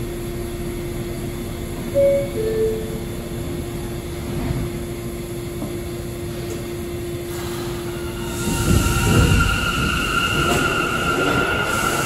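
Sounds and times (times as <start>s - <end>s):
subway train equipment hum: 0.0s - 12.0s.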